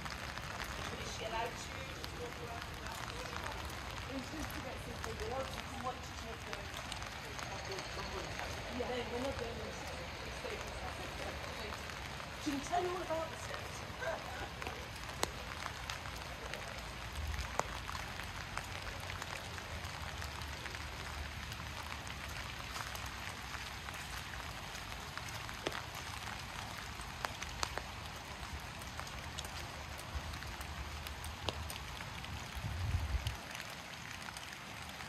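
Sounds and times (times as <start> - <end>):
raindrop ticks: 0.0 - 35.0
steady rain: 0.0 - 35.0.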